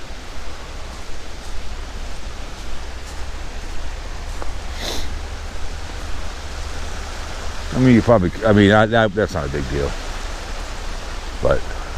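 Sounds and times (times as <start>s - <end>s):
creek water rushing: 0.0s - 11.9s.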